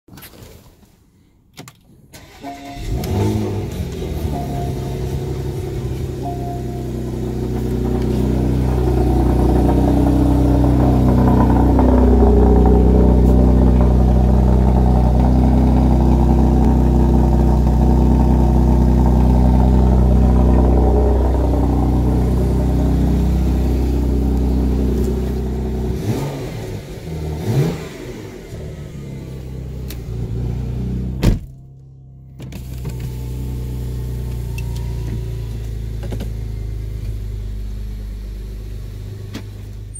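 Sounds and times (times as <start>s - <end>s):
car engine idling through exhaust: 2.8s - 39.9s.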